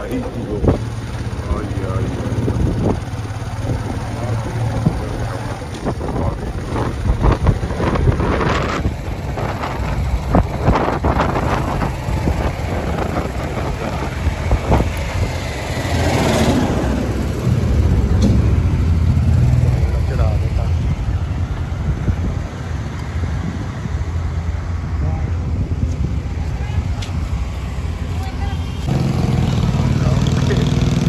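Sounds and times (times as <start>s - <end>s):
vehicle engine and road rumble: 0.0s - 31.0s
wind buffeting microphone: 0.0s - 31.0s.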